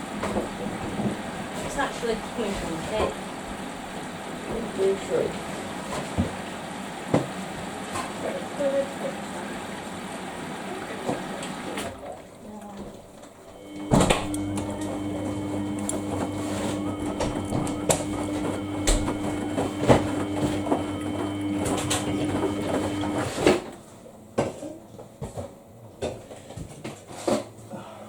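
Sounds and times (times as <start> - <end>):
washing machine humming: 0.0 - 24.4.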